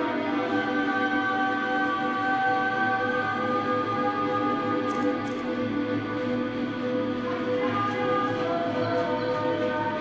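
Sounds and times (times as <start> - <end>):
ambient post-rock music: 0.0 - 10.0.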